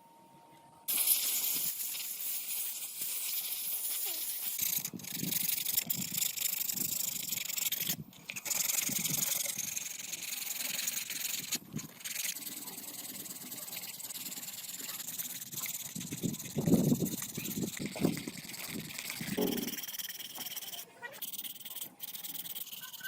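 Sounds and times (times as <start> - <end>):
hissing scrape of rubbing: 0.9 - 23.0.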